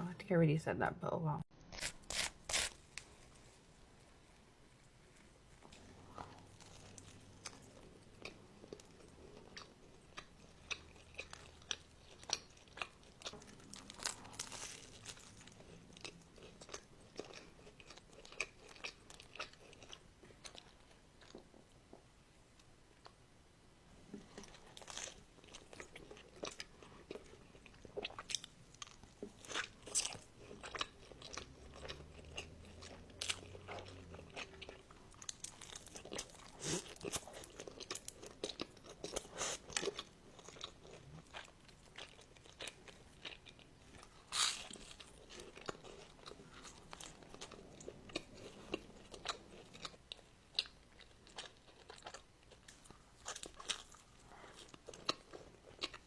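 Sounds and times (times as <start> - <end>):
chewing crunchy food: 4.8 - 21.8, 24.1 - 56.0.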